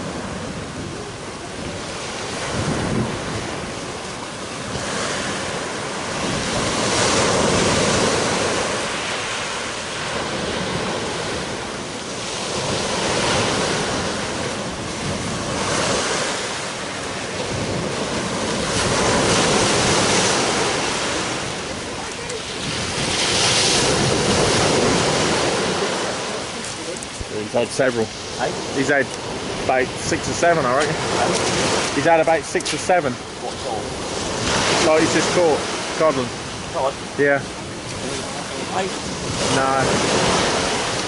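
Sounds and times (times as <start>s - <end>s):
waves breaking on pebbly beach: 0.0s - 41.0s
wind buffeting microphone: 0.0s - 41.0s.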